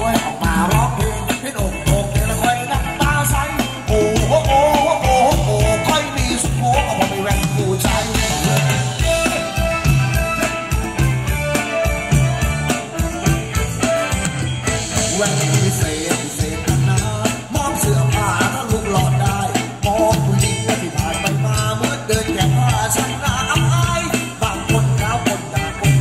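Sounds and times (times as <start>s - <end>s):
live band playing dance music: 0.0s - 26.0s.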